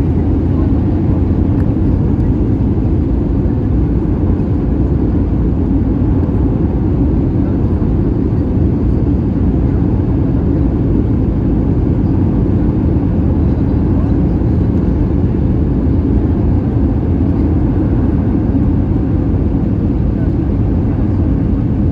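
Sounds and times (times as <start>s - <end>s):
airplane cabin rumble: 0.0s - 21.9s.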